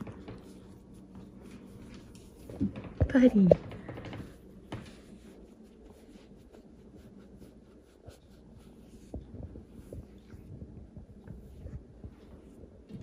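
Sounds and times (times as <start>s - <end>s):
hand rubbing dog fur: 0.0s - 13.0s.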